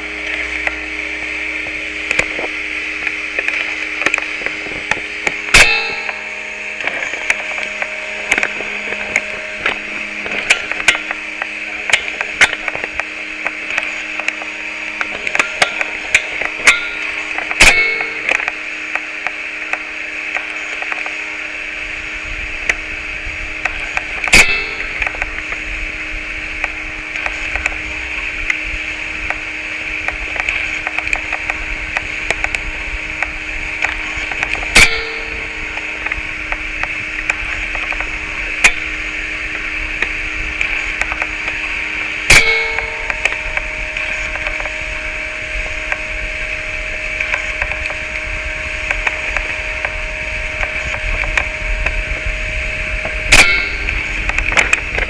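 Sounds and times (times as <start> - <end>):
high steady tone: 0.0 - 55.0
low droning hum: 0.0 - 55.0
steady hiss: 0.0 - 55.0.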